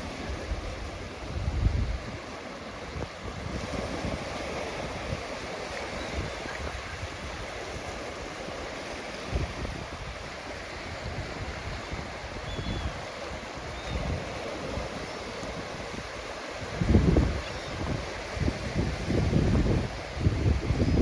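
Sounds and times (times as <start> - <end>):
ocean waves washing onto beach: 0.0 - 21.0
wind gusting on microphone: 0.0 - 21.0.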